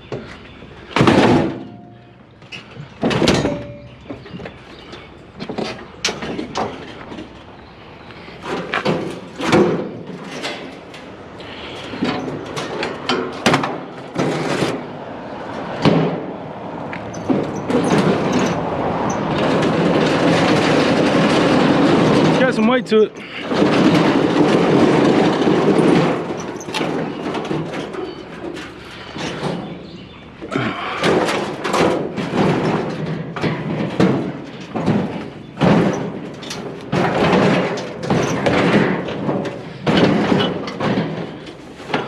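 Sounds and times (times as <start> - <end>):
scrap metal clanking and scraping: 0.0 - 42.0.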